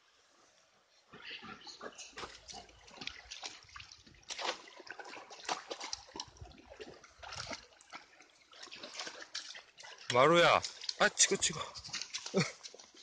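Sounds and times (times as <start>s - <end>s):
stream running over rocks: 1.8s - 13.0s.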